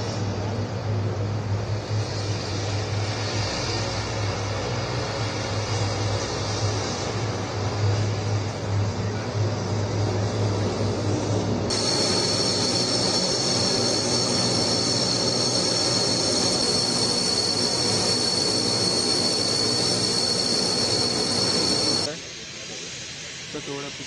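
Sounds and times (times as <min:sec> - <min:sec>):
high-pitched turbine whine: 0:00.0 - 0:24.0
turboprop engines running: 0:00.0 - 0:24.0.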